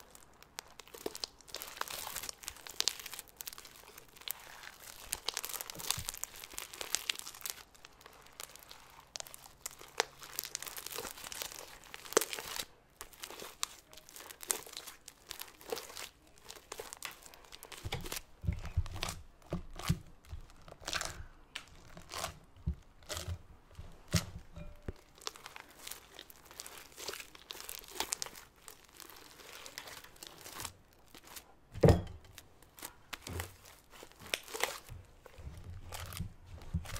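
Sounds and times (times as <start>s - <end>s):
slime crackling and popping: 0.0s - 36.9s.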